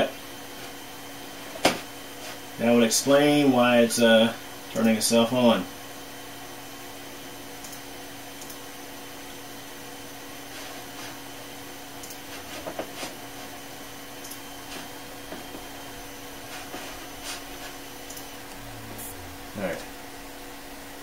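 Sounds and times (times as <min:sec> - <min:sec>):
computer fans whirring: 0:00.0 - 0:21.0.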